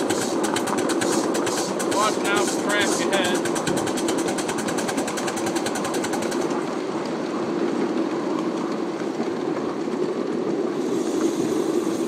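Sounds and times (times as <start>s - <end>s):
model steam locomotive clatter: 0.0s - 12.0s
steady rumble and hiss: 0.0s - 12.0s.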